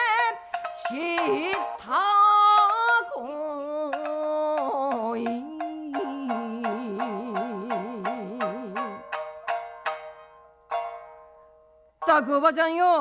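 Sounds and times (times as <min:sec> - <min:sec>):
shamisen plucking: 0:00.0 - 0:13.0.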